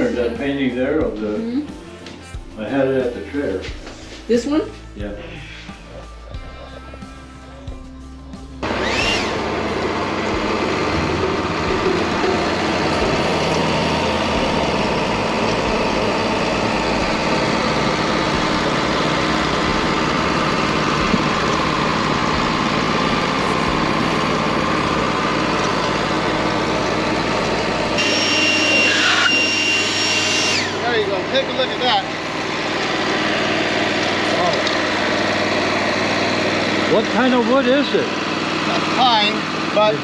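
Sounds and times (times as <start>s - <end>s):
band sawmill running: 0.0s - 1.4s, 6.0s - 40.0s
high whine: 5.4s - 37.6s.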